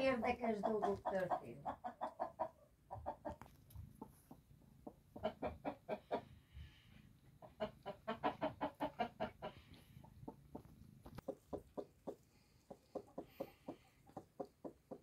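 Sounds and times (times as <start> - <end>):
hen clucking: 0.0 - 6.5, 7.2 - 15.0.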